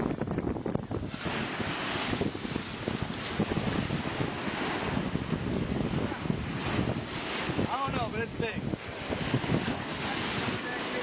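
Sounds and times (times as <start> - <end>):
sea water rushing: 0.0 - 11.0
wind buffeting microphone: 0.0 - 11.0.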